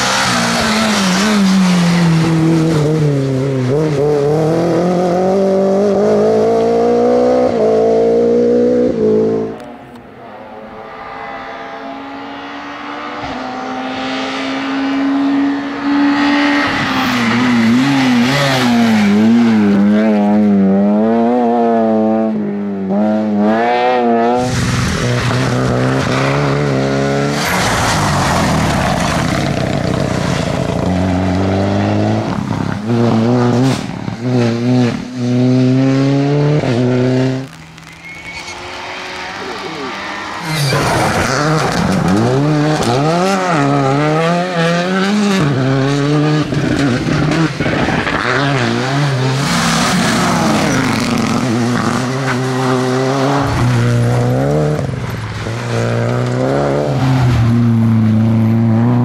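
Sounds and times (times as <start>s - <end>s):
rally car engine at full throttle: 0.0s - 59.0s.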